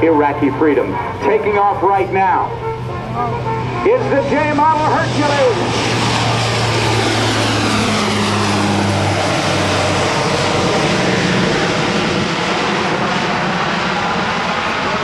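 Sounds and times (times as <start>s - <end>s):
low steady drone: 0.0s - 15.0s
turboprop aircraft engines roaring: 0.0s - 15.0s.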